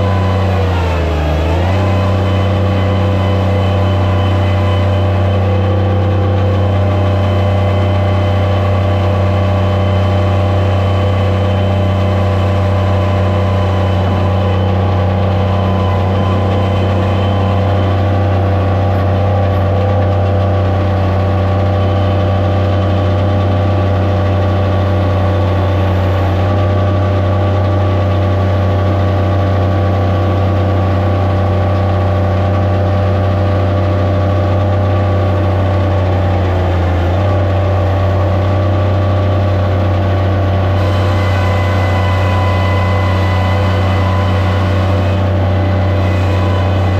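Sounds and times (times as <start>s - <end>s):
loader engine running steadily: 0.0s - 46.9s.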